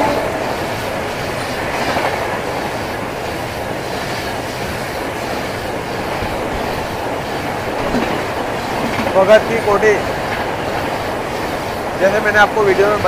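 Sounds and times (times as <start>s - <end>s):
train passing: 0.0s - 13.0s
wheels clacking over rail joints: 0.0s - 13.0s.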